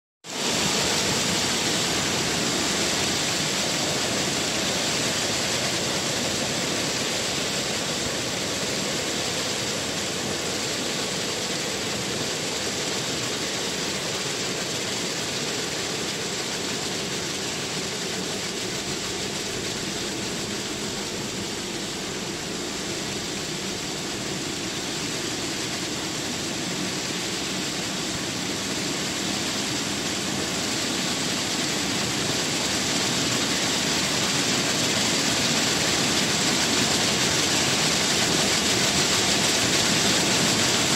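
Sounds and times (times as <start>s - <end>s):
waterfall rushing: 0.3s - 40.9s.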